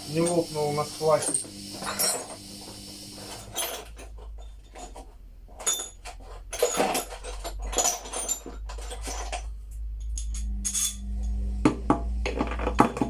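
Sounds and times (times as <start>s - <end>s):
low hum: 0.0s - 13.0s
metal tools clinking: 0.1s - 2.4s, 3.2s - 11.4s.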